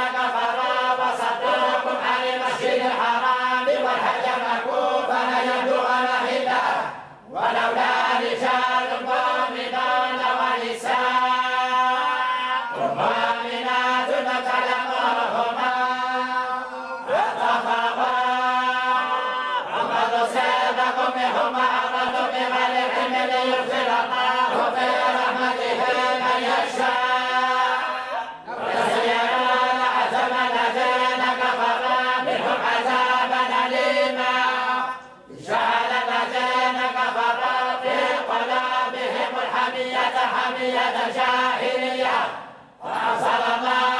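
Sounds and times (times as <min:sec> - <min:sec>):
group reciting in unison: 0:00.0 - 0:43.9.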